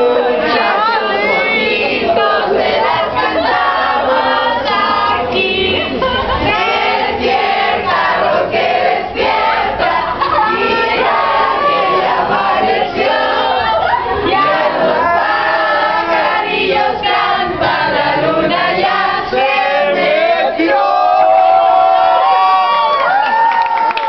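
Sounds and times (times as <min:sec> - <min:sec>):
group singing and shouting: 0:00.0 - 0:23.3.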